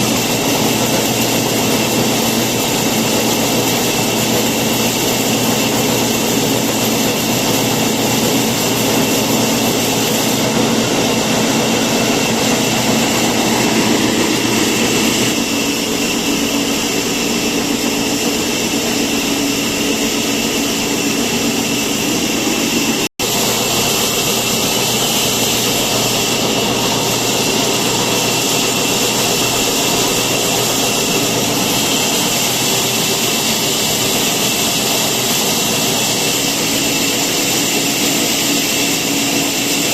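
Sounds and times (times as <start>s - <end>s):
loud running machine: 0.0s - 39.9s.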